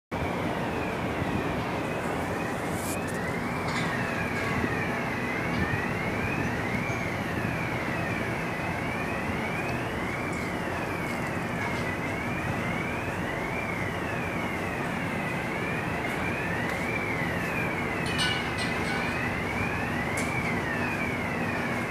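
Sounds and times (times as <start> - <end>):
dense background noise: 0.1 - 21.9
siren wailing: 0.1 - 21.9.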